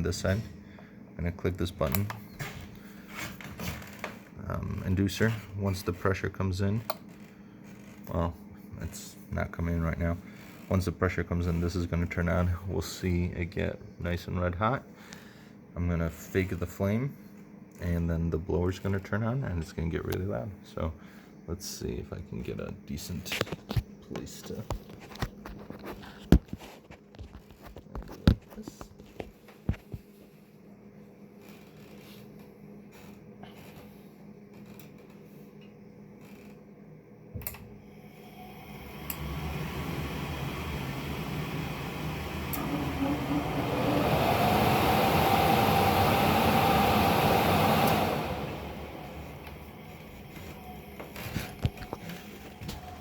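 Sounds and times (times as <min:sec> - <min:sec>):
furnace blower fan rushing air: 0:00.0 - 0:26.6, 0:27.7 - 0:53.0
faint steady hum: 0:00.0 - 0:53.0.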